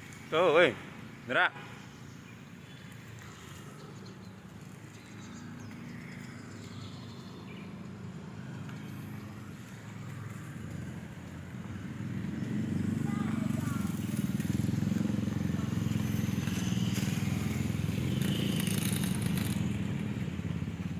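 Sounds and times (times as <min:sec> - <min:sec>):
vehicle engine rumbling: 0:00.0 - 0:20.9.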